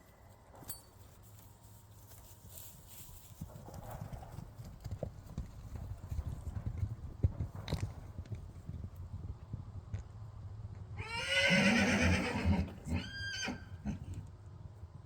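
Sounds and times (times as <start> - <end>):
horses galloping hoofbeats: 0.0 - 15.0.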